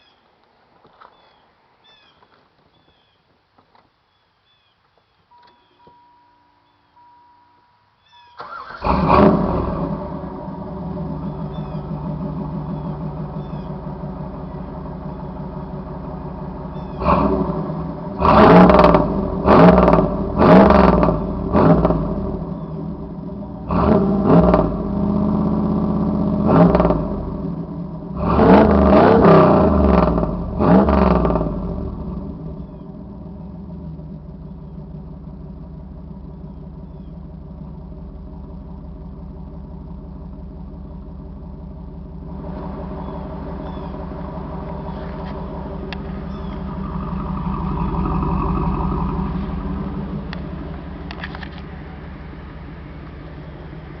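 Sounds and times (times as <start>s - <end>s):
car engine revving and idling: 8.5s - 54.0s.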